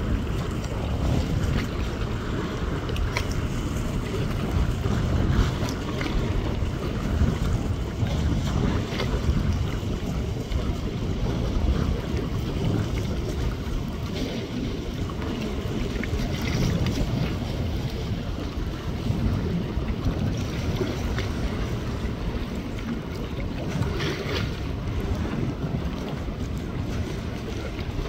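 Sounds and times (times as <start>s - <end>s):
waves and water noise: 0.0s - 28.0s
wind buffeting microphone: 0.0s - 28.0s.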